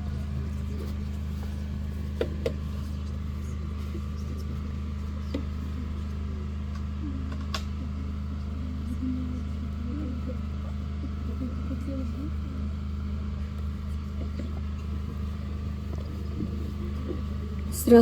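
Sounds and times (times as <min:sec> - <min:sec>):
sound system electrical hum: 0:00.0 - 0:18.0.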